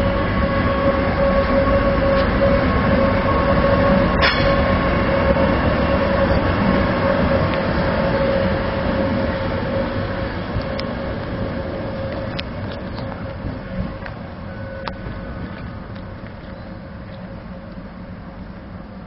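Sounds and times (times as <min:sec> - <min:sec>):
electric train rumbling past: 0:00.0 - 0:19.0.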